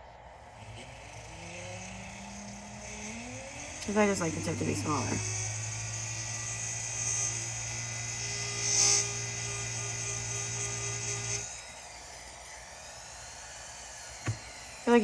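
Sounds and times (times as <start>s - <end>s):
rotary tool grinding metal pick: 0.4s - 15.0s.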